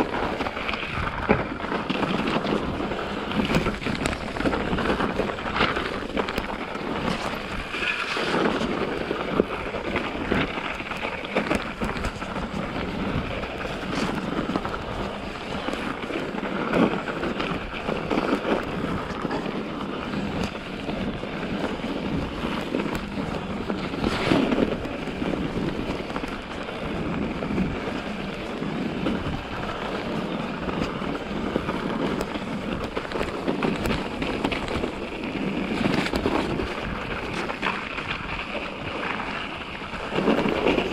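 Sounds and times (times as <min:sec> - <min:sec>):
bike tyres rumbling and rattling: 0:00.0 - 0:40.9
wind on microphone: 0:00.0 - 0:40.9.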